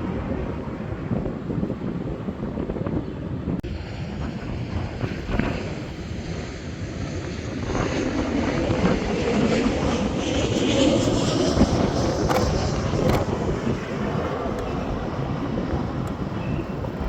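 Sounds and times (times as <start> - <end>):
jet airliner passing over: 0.0 - 17.0
wind rumbling on microphone: 0.0 - 17.0.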